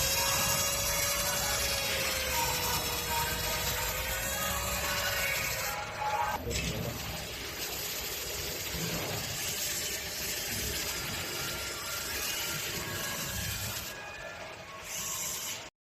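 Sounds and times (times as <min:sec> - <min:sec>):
laser engraving machine hissing: 0:00.0 - 0:15.7.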